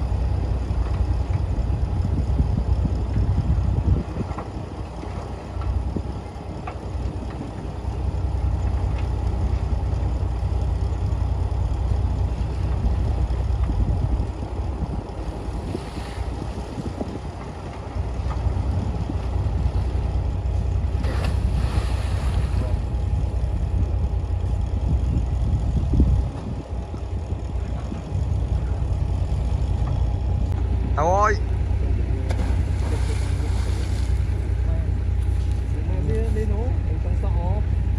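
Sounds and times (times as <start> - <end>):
bulldozer diesel engine rumbling: 0.0 - 37.9.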